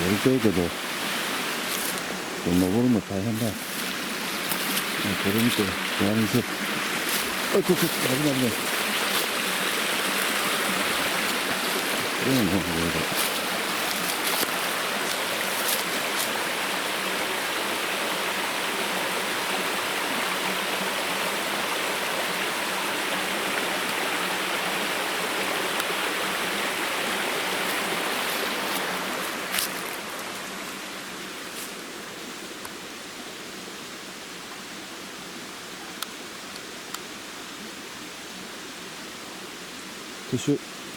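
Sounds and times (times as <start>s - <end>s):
waterfall rushing: 0.0s - 33.2s.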